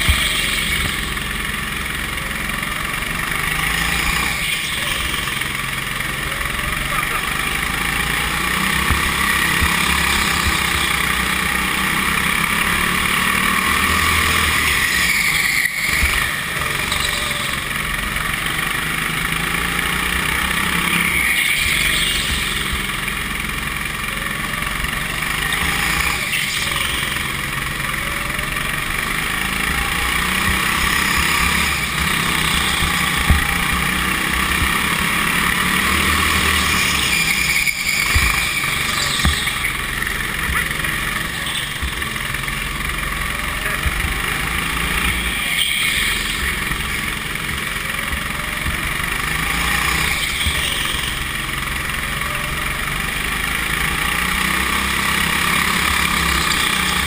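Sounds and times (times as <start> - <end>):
go-kart engine running hard: 0.0 - 57.0.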